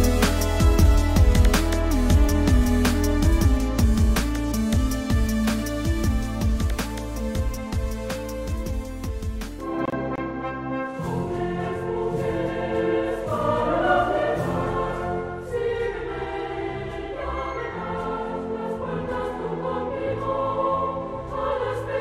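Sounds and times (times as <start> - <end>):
instrumental backing music: 0.0 - 19.8
choir singing sustained chords: 0.0 - 22.0.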